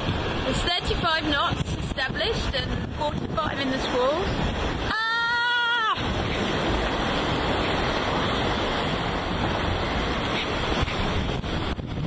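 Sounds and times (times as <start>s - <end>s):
breaking seas rushing: 0.0s - 12.0s
gale-force wind: 0.0s - 12.0s
wind buffeting on microphone: 0.0s - 12.0s.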